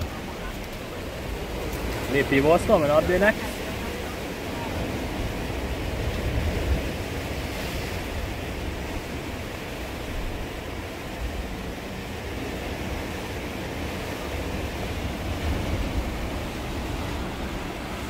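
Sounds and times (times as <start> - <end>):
surf breaking against rocks: 0.0 - 18.0
wind rumbling on microphone: 0.0 - 18.0.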